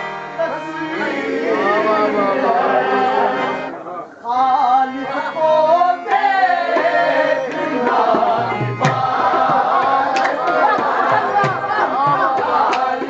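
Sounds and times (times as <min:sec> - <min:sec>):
harmonium playing: 0:00.0 - 0:03.8, 0:04.4 - 0:13.0
men singing in unison: 0:00.6 - 0:13.0.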